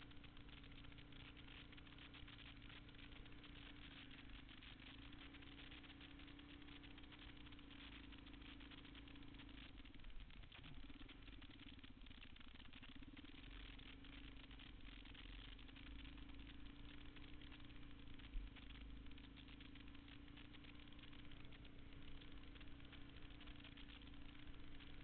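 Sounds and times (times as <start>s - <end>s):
faint motorcycle engine running: 0.0s - 25.0s.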